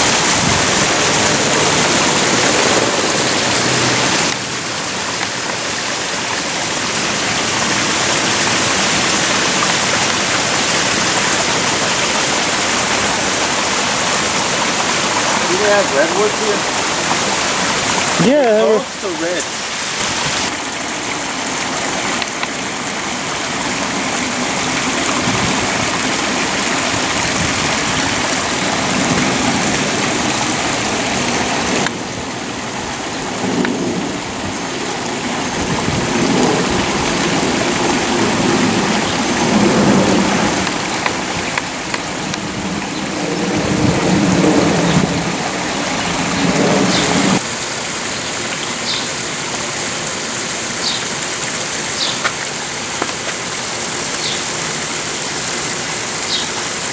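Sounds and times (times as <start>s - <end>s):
water rushing over rocks: 0.0s - 56.9s.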